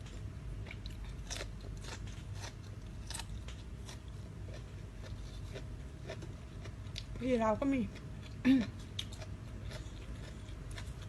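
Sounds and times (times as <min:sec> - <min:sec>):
person chewing crunchy food: 0:00.0 - 0:07.2, 0:07.8 - 0:11.0.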